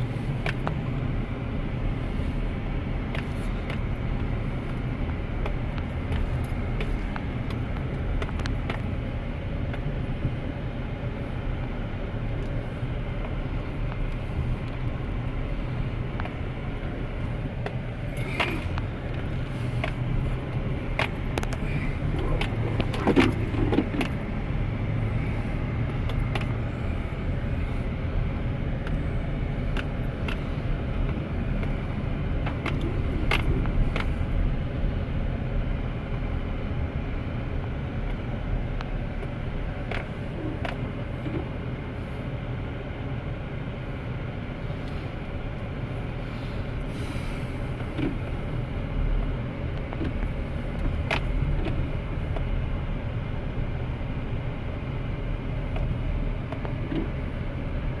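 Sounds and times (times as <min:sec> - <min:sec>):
truck engine rumble: 0:00.0 - 0:58.0.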